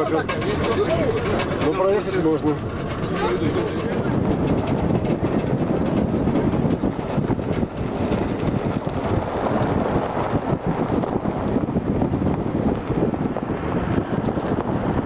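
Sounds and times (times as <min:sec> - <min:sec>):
vehicle rattling over gravel: 0:00.0 - 0:15.0
wind buffeting microphone: 0:00.0 - 0:15.0.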